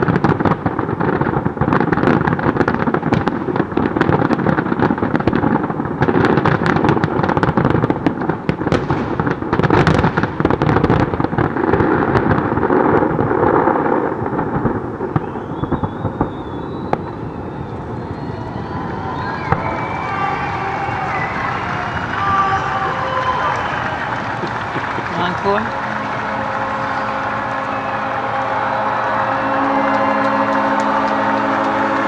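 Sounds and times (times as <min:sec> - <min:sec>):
fireworks booms and crackling: 0:00.0 - 0:32.0.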